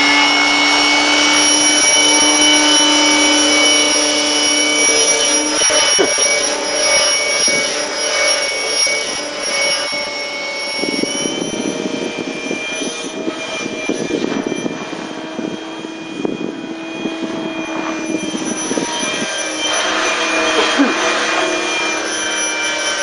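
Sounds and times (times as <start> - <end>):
fluttering rotor noise: 0.0 - 23.0
model helicopter motor whine: 0.0 - 23.0.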